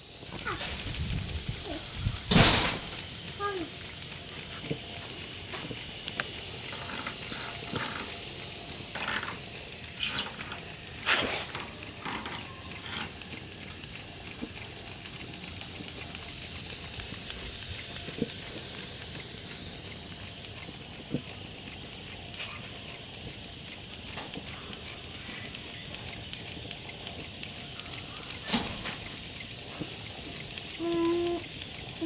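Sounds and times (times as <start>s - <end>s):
steam spits and pops: 0.0s - 32.0s
toy steam engine hissing: 0.0s - 32.0s.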